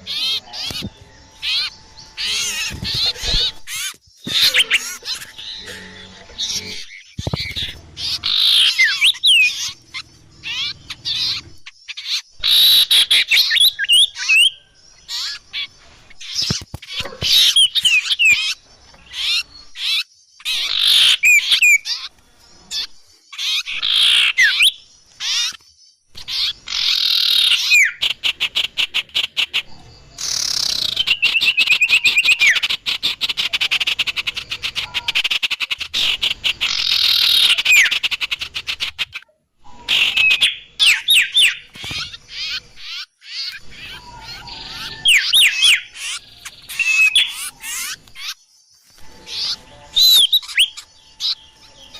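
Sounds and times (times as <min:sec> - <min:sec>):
bird rattling trills and chatter: 0:00.0 - 0:51.9
small songbird chirps and whistles: 0:06.5 - 0:51.9.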